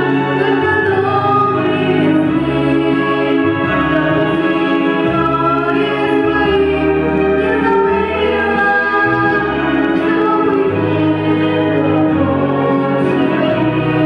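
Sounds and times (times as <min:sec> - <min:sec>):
backing track with bass: 0:00.0 - 0:14.0
choir-like singing: 0:00.0 - 0:14.0.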